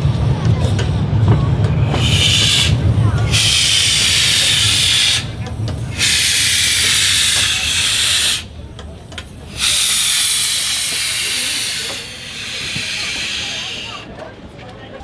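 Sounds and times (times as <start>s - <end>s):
steam locomotive hissing steam: 0.0s - 14.6s.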